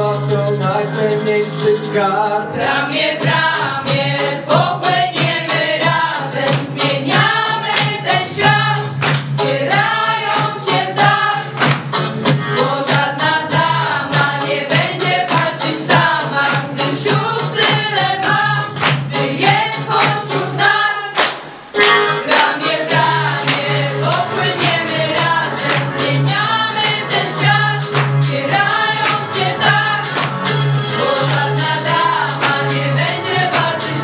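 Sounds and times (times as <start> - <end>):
young singers singing together: 0.0 - 34.0
sharp regular beats: 2.6 - 34.0.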